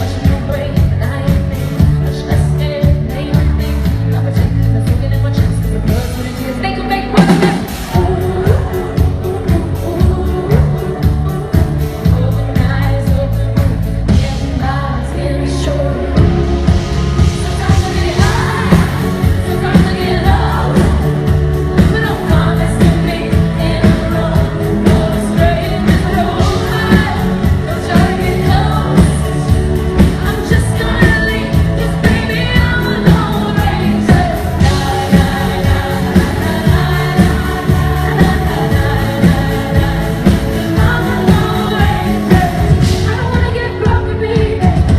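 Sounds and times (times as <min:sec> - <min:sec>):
pop band playing: 0:00.0 - 0:44.9
woman singing: 0:00.0 - 0:44.9.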